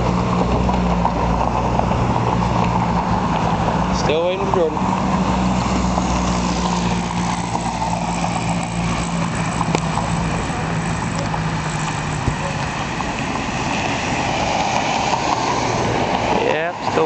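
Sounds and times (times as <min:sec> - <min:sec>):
low engine hum: 0:00.0 - 0:17.0
roadside traffic noise: 0:00.0 - 0:17.0.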